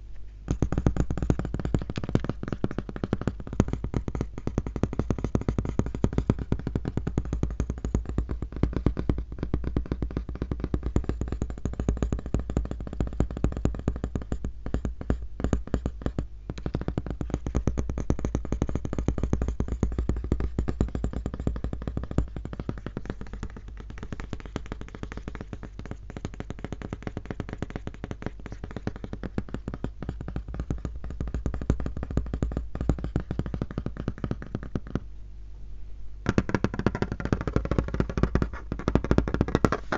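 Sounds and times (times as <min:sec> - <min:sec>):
fast typing on laptop: 0:00.5 - 0:35.0, 0:36.3 - 0:39.9.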